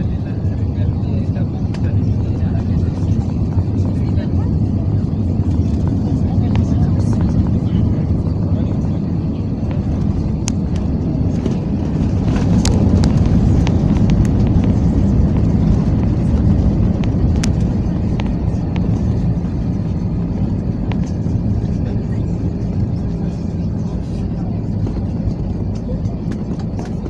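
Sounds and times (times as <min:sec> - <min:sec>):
aircraft cabin rumble: 0:00.0 - 0:27.0.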